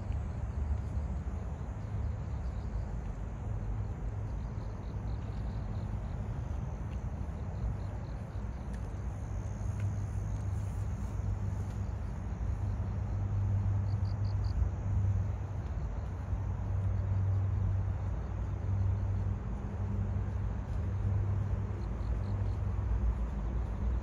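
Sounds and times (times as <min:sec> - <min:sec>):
crickets chirping: 0:00.0 - 0:24.0
distant traffic hum: 0:00.0 - 0:24.0.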